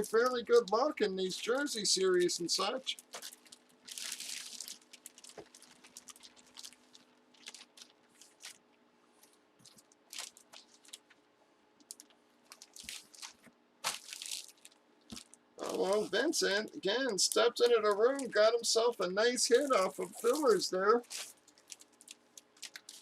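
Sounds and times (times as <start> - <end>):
plastic packaging crinkling: 0.0 - 11.2, 11.8 - 18.5, 19.5 - 23.0.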